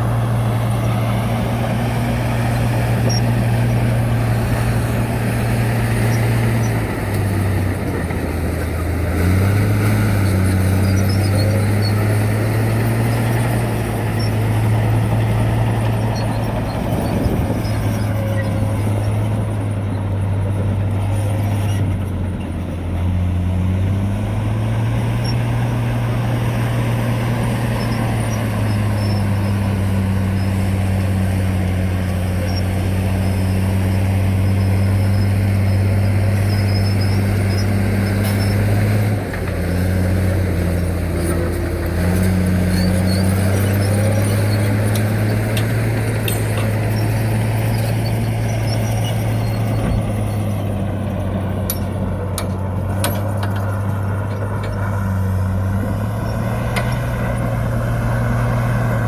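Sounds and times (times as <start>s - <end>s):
heavy diesel machine engine running: 0.0s - 59.0s.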